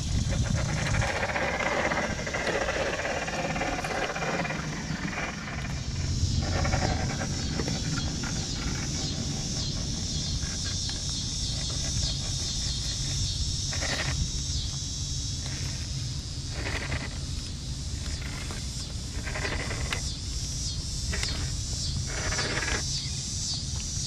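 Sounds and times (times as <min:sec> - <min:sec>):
toy car motor whirring: 0:00.0 - 0:14.7, 0:15.4 - 0:20.2, 0:21.0 - 0:23.2
high insect drone: 0:00.0 - 0:24.0.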